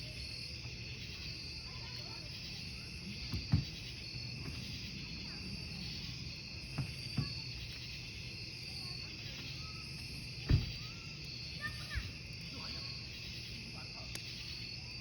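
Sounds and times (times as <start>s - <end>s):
crickets chirping: 0.0s - 15.0s
campfire crackling pops: 0.1s - 15.0s.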